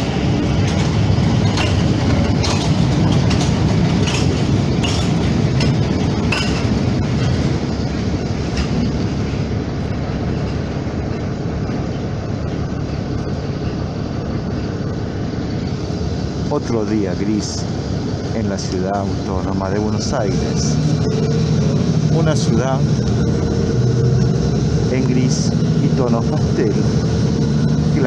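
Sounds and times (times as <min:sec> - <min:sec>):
bus body rattling: 0:00.0 - 0:28.0
bus engine and road rumble: 0:00.0 - 0:28.0.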